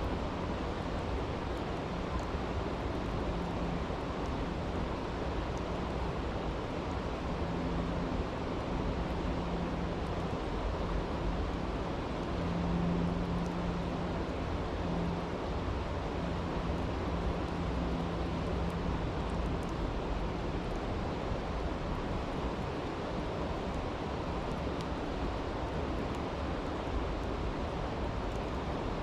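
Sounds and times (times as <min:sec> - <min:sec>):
campfire crackles: 0:00.1 - 0:29.0.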